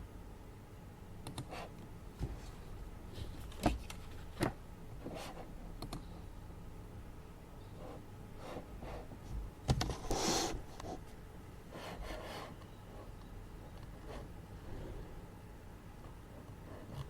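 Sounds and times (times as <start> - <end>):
air purifier hum: 0.0 - 17.0.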